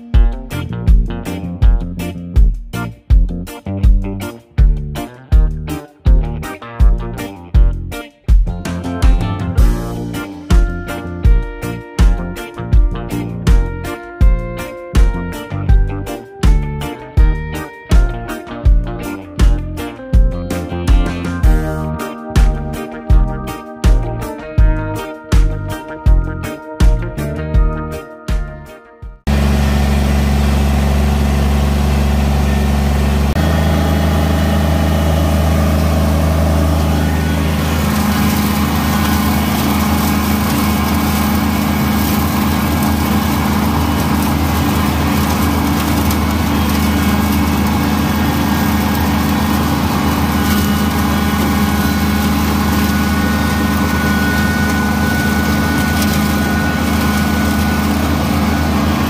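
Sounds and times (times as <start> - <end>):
tractor diesel engine running: 0.0 - 28.0, 29.3 - 59.0.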